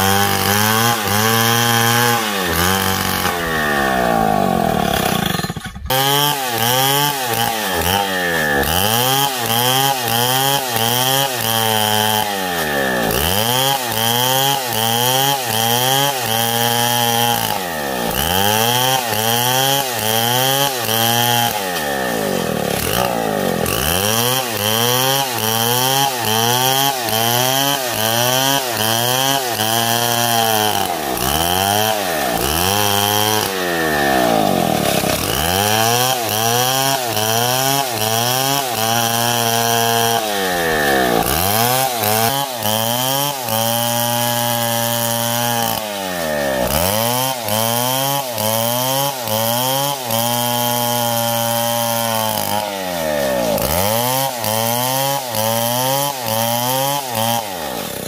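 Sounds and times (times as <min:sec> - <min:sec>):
chainsaw ripping wood: 0:00.0 - 0:58.0.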